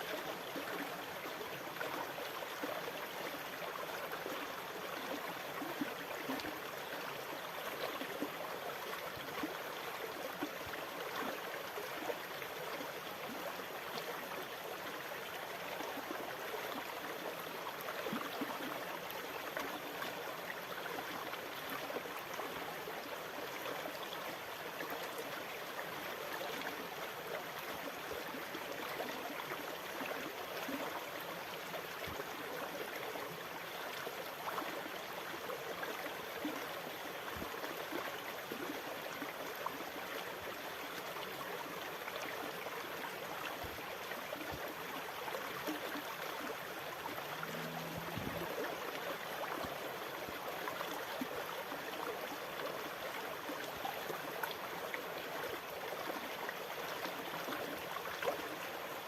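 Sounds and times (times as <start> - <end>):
water trickling and gurgling: 0.1 - 59.0.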